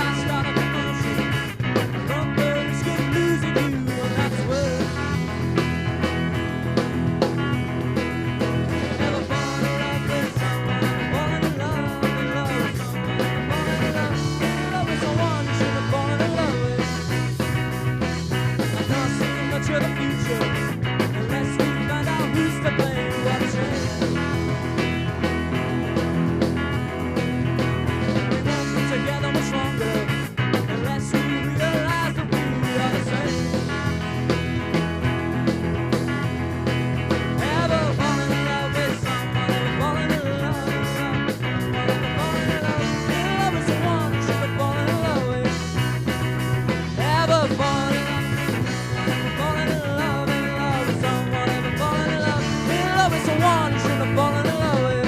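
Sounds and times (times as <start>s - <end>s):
lead singer singing: 0.0s - 6.0s, 8.4s - 25.1s, 27.6s - 34.4s, 37.1s - 55.0s
punk rock band playing: 0.0s - 55.0s.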